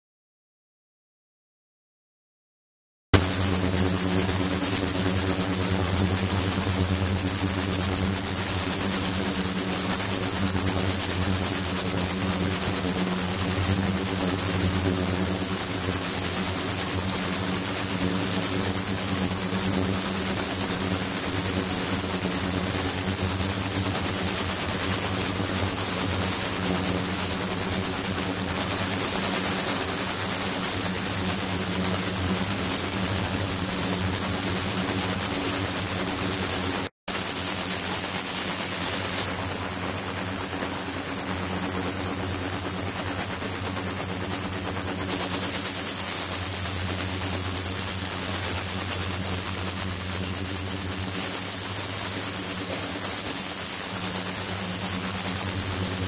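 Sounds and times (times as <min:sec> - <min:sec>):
electric hum: 0:03.2 - 0:53.0
thin high whine: 0:03.2 - 0:56.0.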